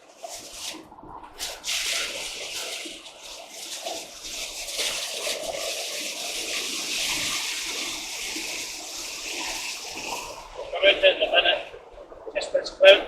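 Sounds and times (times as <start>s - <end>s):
wet road spray: 0.0s - 11.2s.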